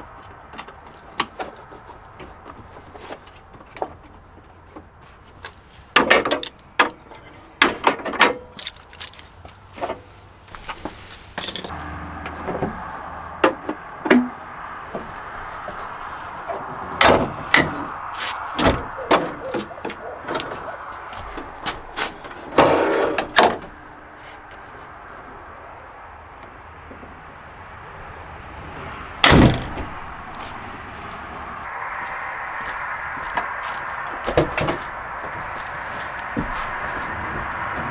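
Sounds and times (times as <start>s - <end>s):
knocks clicks and clunks: 0.0s - 31.9s
steady background noise: 0.0s - 37.9s.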